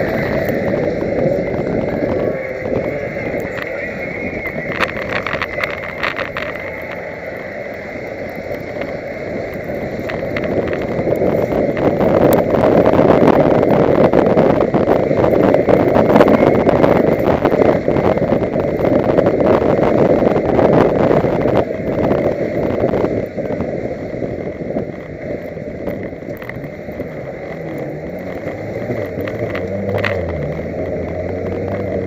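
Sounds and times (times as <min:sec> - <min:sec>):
gravel rattling against car: 0:00.0 - 0:32.0
race car engine running hard: 0:00.0 - 0:32.0
tyre and wind noise: 0:00.0 - 0:32.0.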